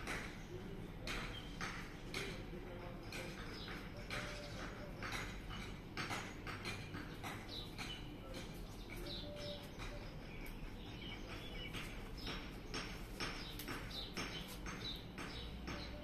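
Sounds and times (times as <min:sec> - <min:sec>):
birds chirping: 0:00.0 - 0:16.0
low background hum: 0:00.0 - 0:16.0.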